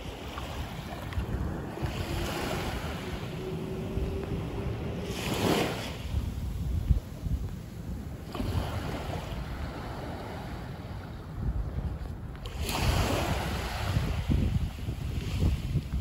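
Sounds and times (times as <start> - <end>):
small waves washing on shore: 0.0 - 16.0
wind rumble on microphone: 0.0 - 16.0.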